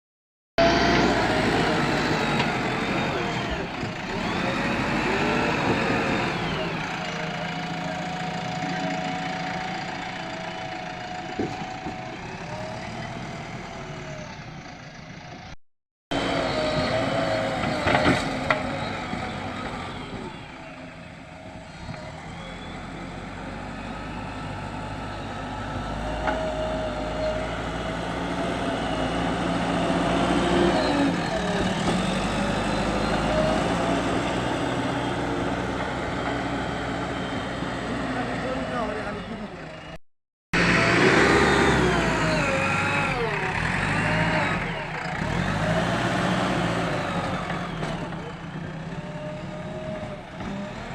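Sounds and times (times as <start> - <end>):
diesel engine under load: 0.6 - 40.0, 40.6 - 50.9.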